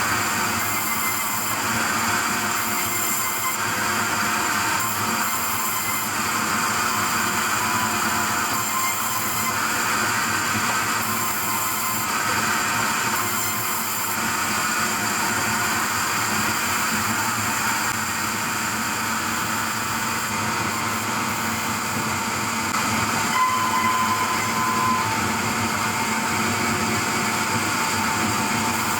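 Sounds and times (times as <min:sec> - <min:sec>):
machinery running: 0:00.0 - 0:28.9.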